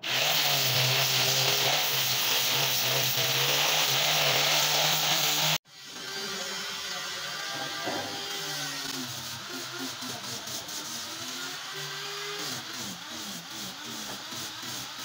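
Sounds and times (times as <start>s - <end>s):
power tool brush running: 0.0s - 15.0s.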